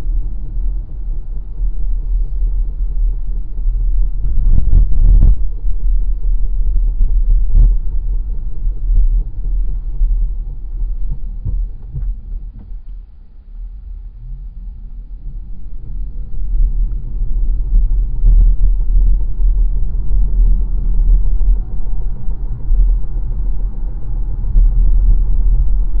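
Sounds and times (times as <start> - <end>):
car low rumble: 0.0 - 26.0.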